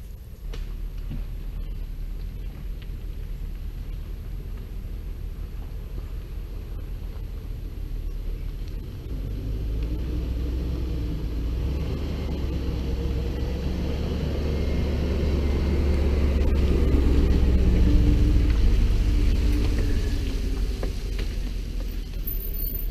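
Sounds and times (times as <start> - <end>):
truck engine rumble: 0.0 - 22.9.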